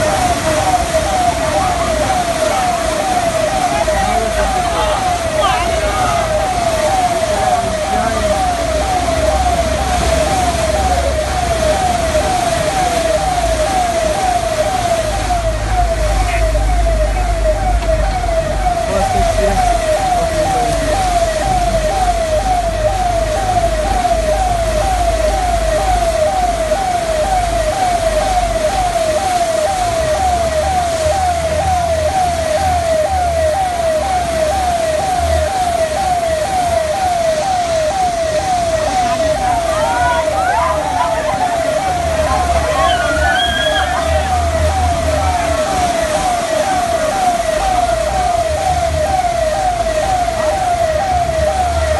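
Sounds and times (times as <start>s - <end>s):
electronic siren yelping: 0.0s - 51.9s
floodwater splashing: 0.0s - 51.9s.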